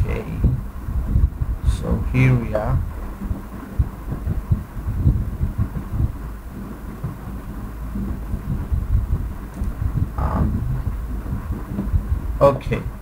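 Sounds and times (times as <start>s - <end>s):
faint low hum: 0.0s - 13.0s
low rumbling and thumps on microphone: 0.0s - 13.0s.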